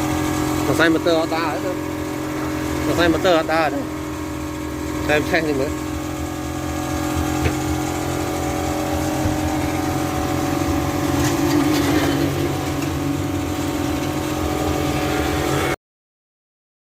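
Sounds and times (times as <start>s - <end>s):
air conditioner blower hum: 0.0s - 15.8s.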